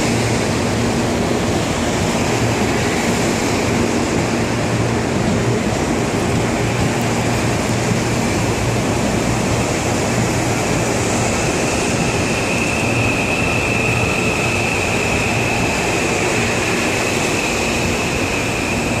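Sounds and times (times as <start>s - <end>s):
high train whine: 0.0s - 19.0s
train rolling with low hum: 0.0s - 19.0s.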